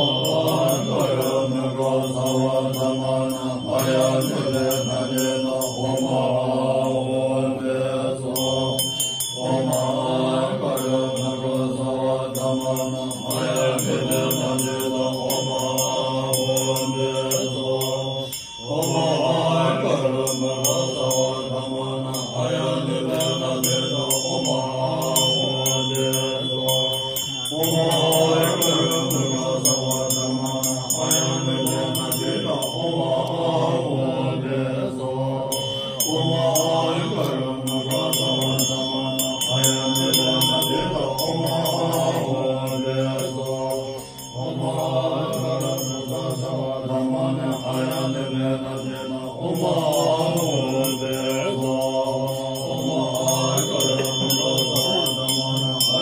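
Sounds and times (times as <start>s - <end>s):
hand bell ringing: 0.0s - 34.4s, 35.4s - 56.0s
deep voice chanting: 0.0s - 56.0s.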